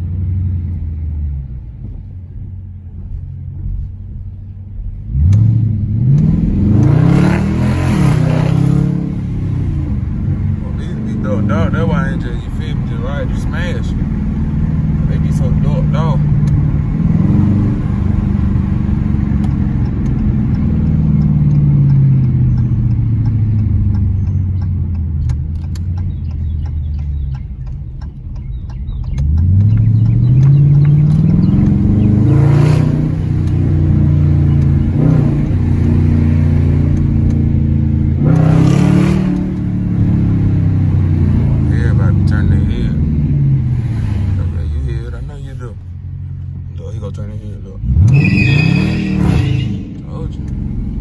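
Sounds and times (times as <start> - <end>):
loud car exhaust: 0.0 - 47.2, 47.8 - 51.0.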